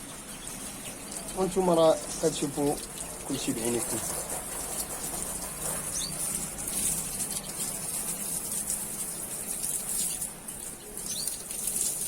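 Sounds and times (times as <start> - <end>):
small birds chirping: 0.0 - 4.0, 4.7 - 8.8, 9.4 - 12.0.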